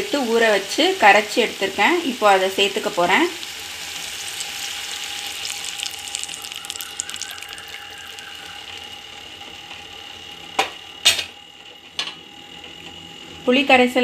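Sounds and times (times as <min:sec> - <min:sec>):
liquid sizzling in hot oil: 0:00.0 - 0:11.4.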